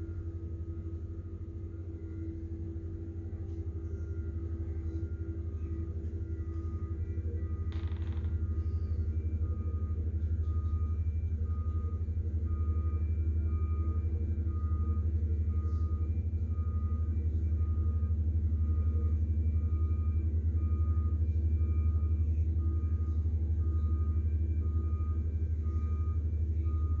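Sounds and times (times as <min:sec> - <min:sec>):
diesel engine rumbling: 0:00.0 - 0:27.0
backup alarm beeping: 0:01.9 - 0:27.0.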